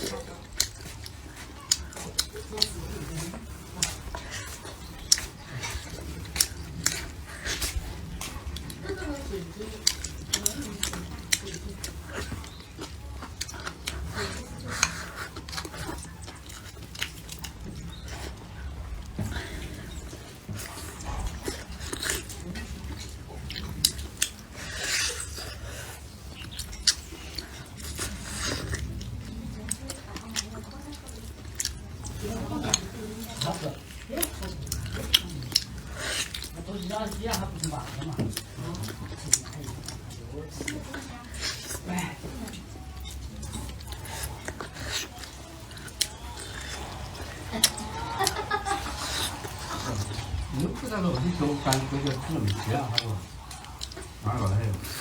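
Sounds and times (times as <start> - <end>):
chewing and biting bones: 0.0 - 55.0.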